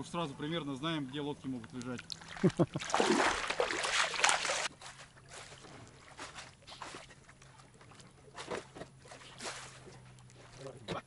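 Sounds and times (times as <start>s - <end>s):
water sloshing and splashing: 1.0s - 11.0s.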